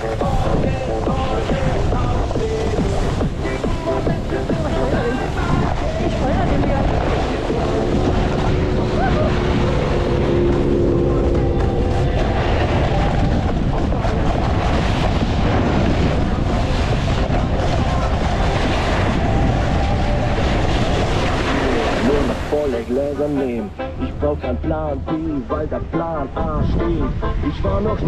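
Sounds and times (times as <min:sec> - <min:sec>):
faint pop music: 0:00.0 - 0:28.0
wind rumble on microphone: 0:00.0 - 0:28.0.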